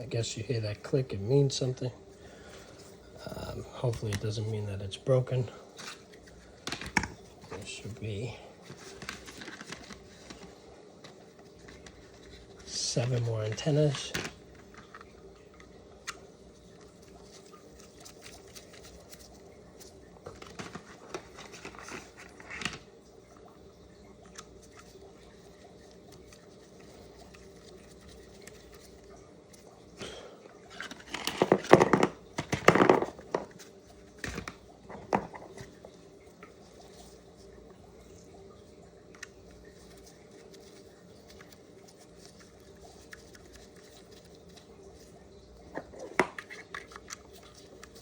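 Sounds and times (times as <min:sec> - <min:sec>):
faint steady hum: 0:00.0 - 0:48.0
handling rustles and clicks: 0:02.6 - 0:04.7, 0:05.7 - 0:23.5, 0:24.1 - 0:38.3, 0:39.0 - 0:48.0.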